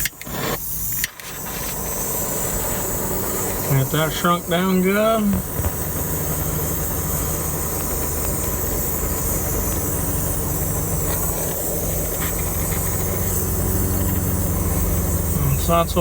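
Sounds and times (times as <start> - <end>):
low mechanical drone with hiss: 0.0 - 16.0.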